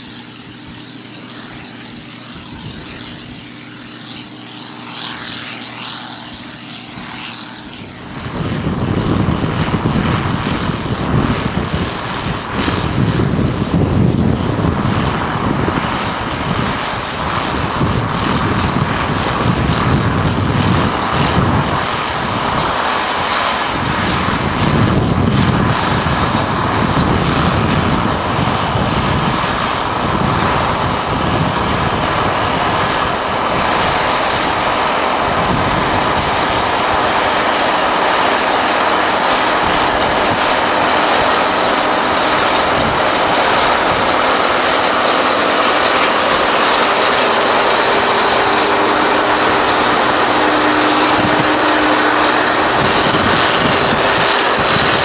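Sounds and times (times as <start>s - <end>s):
combine harvester working: 0.0s - 55.0s.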